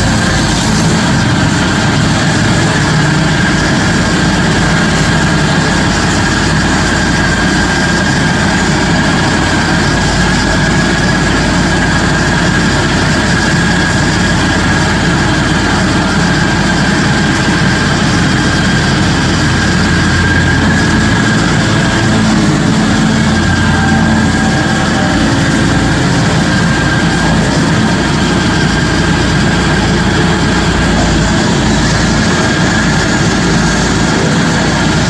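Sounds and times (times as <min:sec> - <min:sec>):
high machine whine: 0:00.0 - 0:35.0
stump grinder running: 0:00.0 - 0:35.0.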